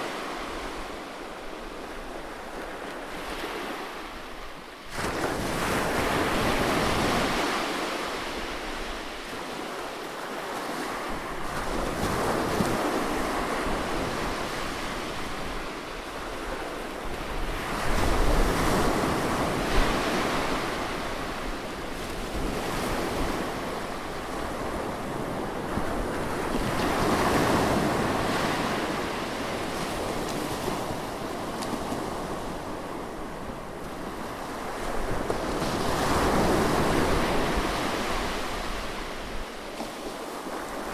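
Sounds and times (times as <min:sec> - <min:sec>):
ocean waves on shore: 0:00.0 - 0:40.9.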